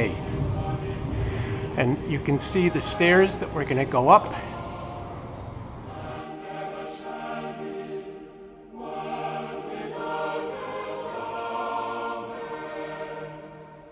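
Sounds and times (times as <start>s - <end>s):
choir singing held chords: 0.0s - 13.9s.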